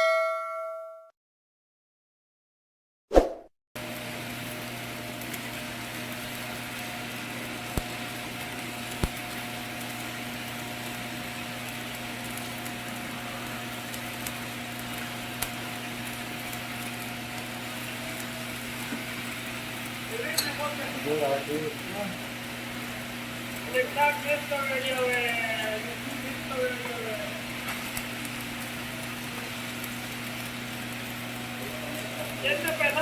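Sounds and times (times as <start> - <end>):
low electrical hum: 3.8 - 33.0
welding arc crackling and hissing: 3.8 - 33.0.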